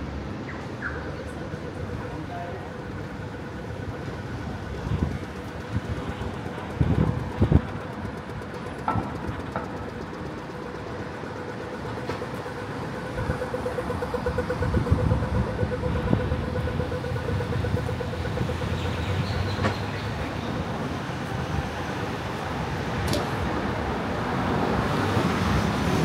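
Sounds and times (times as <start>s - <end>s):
passing vehicles rumbling: 0.0s - 26.0s
pedestrian crossing beeping: 0.0s - 26.0s.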